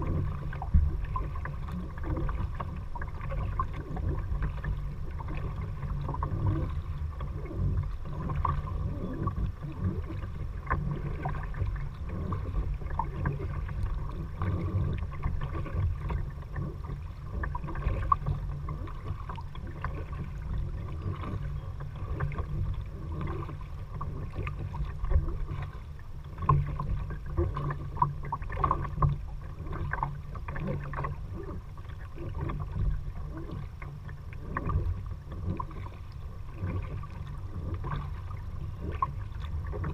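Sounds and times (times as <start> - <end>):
paddles splashing in water: 0.0 - 39.9.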